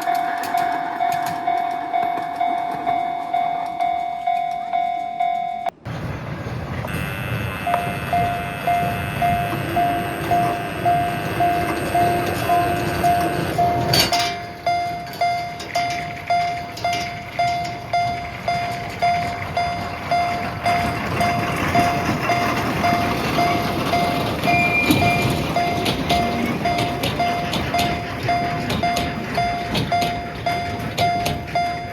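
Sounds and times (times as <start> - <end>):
level crossing warning bell: 0.0 - 5.9, 6.8 - 31.9.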